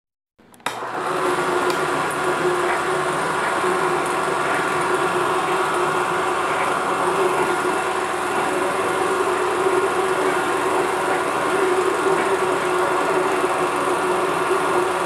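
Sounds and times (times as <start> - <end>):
film projector whirring: 0.4 - 15.0.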